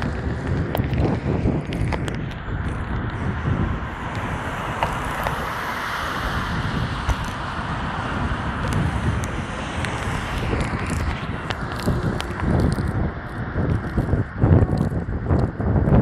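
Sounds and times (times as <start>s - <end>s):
road and traffic hiss: 0.0s - 16.0s
wind buffeting microphone: 0.0s - 16.0s.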